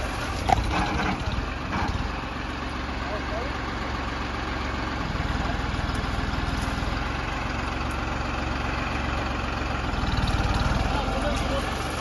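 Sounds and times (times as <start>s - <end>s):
heavy machine engine throbbing: 0.0s - 12.0s.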